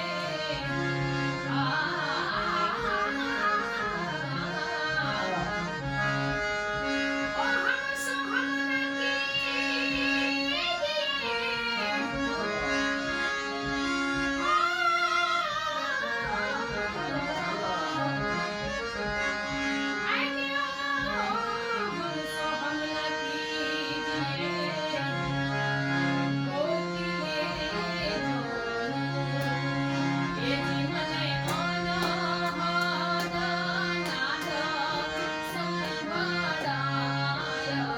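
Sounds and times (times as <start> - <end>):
harmonium sustained notes: 0.0 - 37.9
woman singing devotional song: 0.0 - 37.9.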